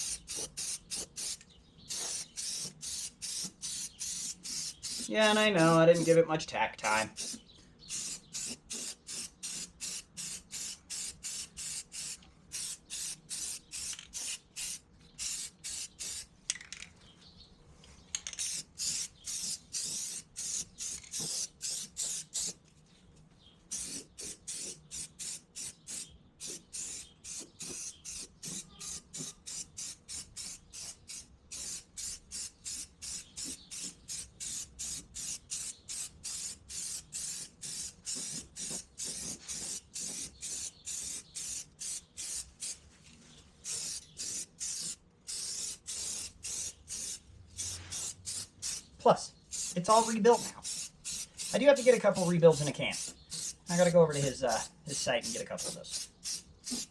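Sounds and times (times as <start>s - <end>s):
spray paint hissing: 0.0s - 6.2s, 6.9s - 16.3s, 18.4s - 22.6s, 23.7s - 42.9s, 43.6s - 56.9s.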